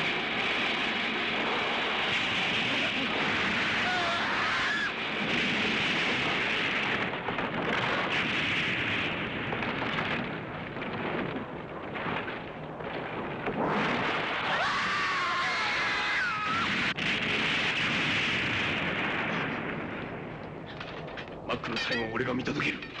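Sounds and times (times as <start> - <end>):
explosion and destruction effects: 0.0 - 23.0.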